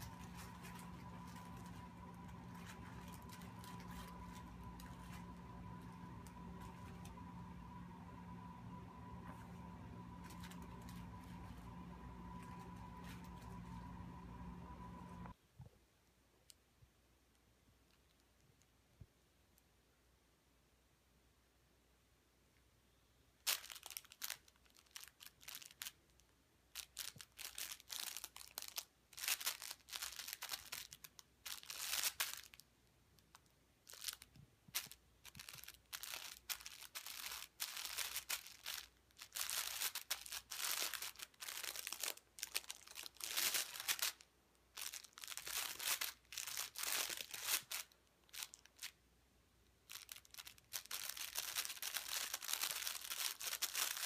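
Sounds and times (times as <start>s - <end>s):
cat play mat crinkling: 0.0s - 15.3s, 23.5s - 49.0s, 49.8s - 54.0s.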